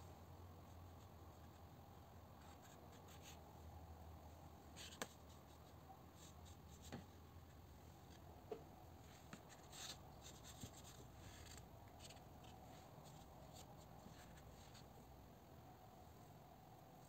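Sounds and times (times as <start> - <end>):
soft rustle: 0.4 - 15.2.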